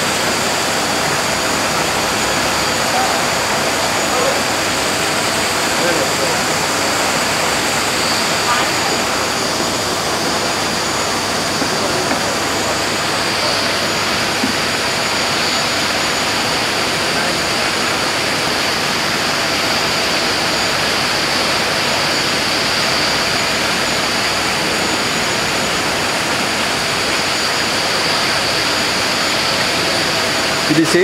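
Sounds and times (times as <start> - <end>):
falling water rushing: 0.0 - 31.0.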